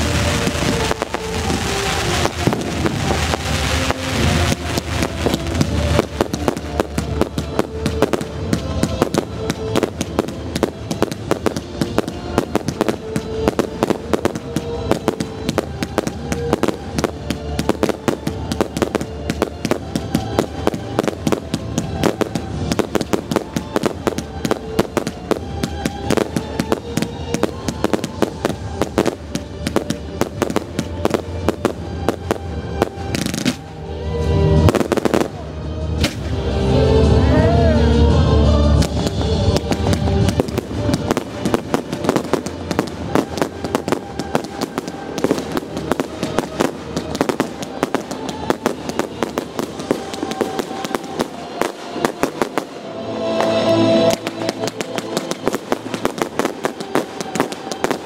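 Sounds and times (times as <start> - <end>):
fireworks bangs and crackling: 0.0 - 36.8, 38.5 - 58.0
music playing: 0.0 - 58.0.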